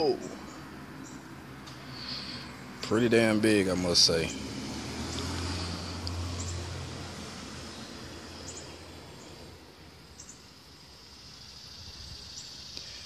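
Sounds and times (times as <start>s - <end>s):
garden background noise: 0.0s - 13.0s.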